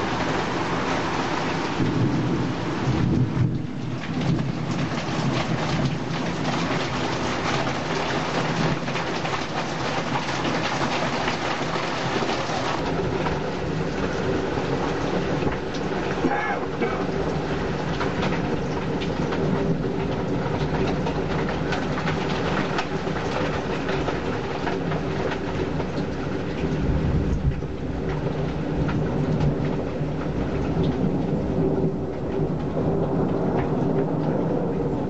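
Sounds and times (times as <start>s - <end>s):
heavy rain falling: 0.0s - 35.0s
sharp raindrops striking close: 0.0s - 35.0s.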